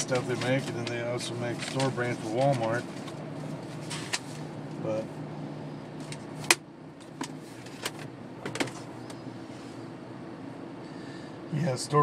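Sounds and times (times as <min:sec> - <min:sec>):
low hum in truck cab: 0:00.0 - 0:12.0.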